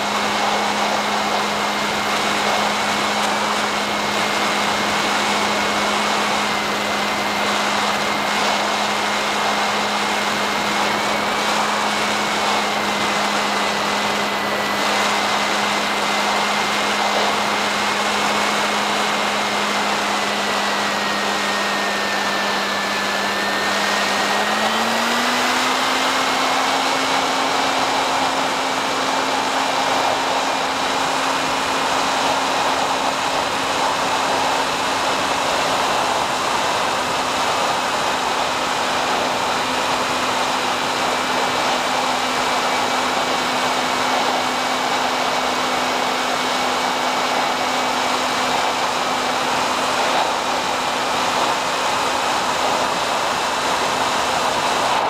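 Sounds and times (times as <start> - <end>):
electric motor whine: 0.0 - 55.0
rush of air: 0.0 - 55.0.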